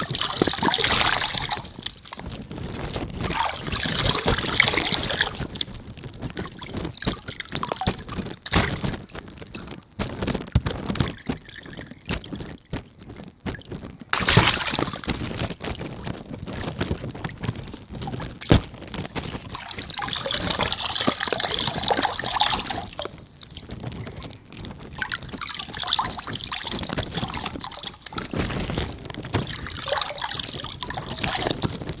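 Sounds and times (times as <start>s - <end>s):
water balloons bursting: 0.0s - 32.0s
water pouring and splashing: 0.0s - 32.0s.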